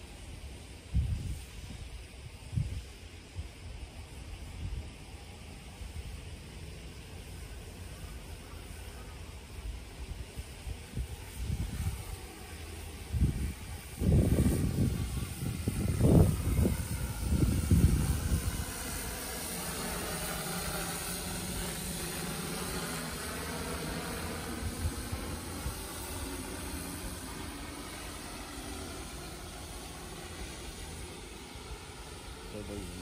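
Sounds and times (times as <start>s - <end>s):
drone propellers humming: 1.8s - 33.0s.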